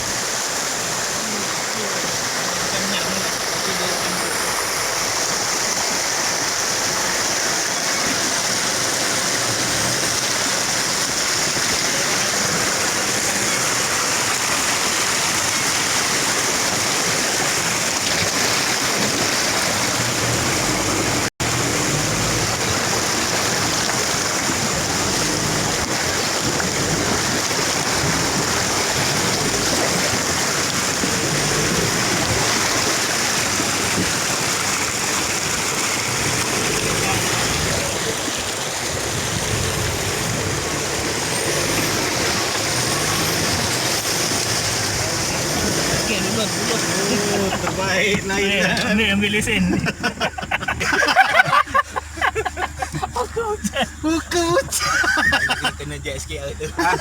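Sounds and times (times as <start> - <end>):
waterfall and stream rushing: 0.0 - 57.0.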